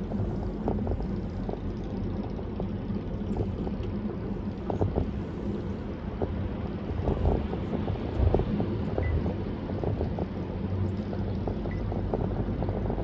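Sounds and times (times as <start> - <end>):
tyre and road rumble: 0.0 - 13.0.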